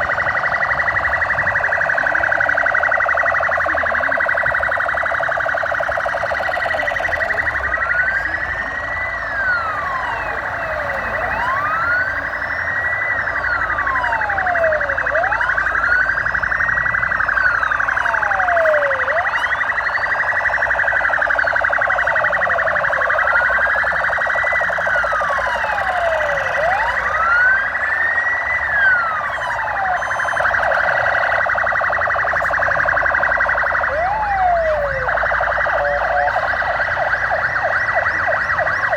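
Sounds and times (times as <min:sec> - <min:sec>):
fast warbling siren: 0:00.0 - 0:38.9
police siren wailing: 0:00.0 - 0:38.9.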